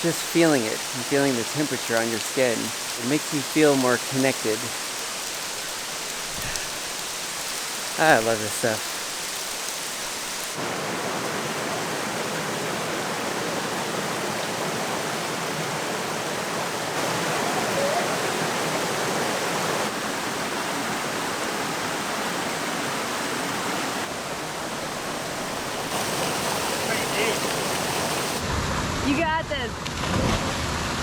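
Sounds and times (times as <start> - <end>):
waterfall roaring: 0.0 - 29.2.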